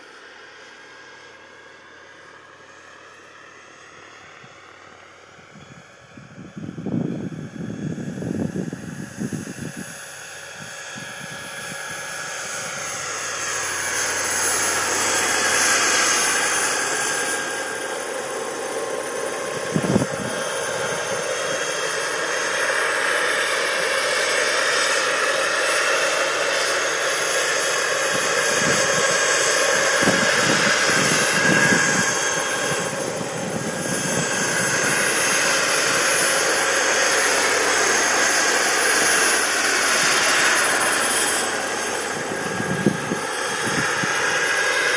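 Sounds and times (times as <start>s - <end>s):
model helicopter engine whine: 0.0s - 44.9s.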